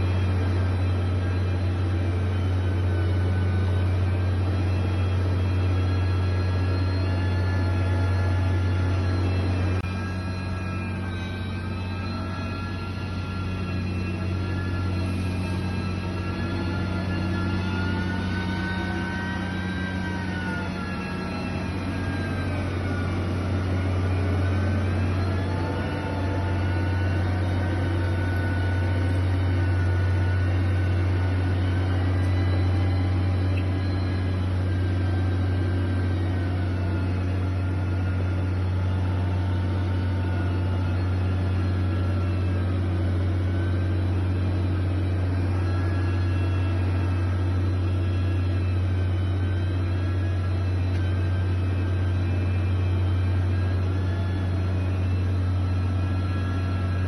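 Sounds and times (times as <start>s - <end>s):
heavy machine engine droning: 0.0s - 57.0s
wavering engine whine: 0.0s - 57.0s.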